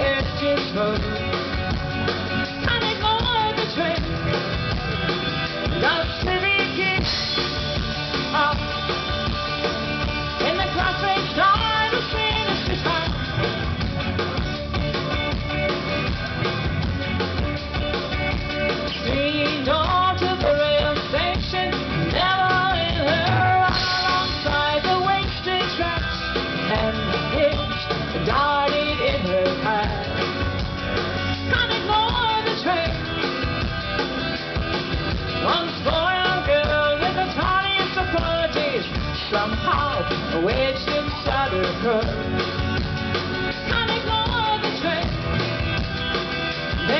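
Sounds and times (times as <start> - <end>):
bass guitar: 0.0 - 46.9
drum kit: 0.0 - 46.9
electric and acoustic guitars: 0.0 - 46.9.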